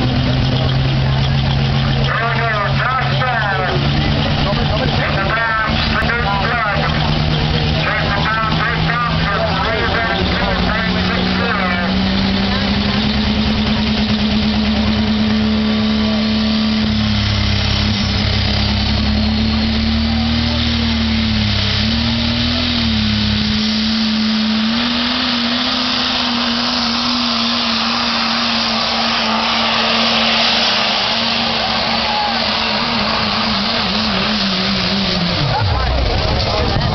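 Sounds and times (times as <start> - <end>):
deep rumble: 0.0 - 36.9
truck engine running hard: 0.0 - 36.9.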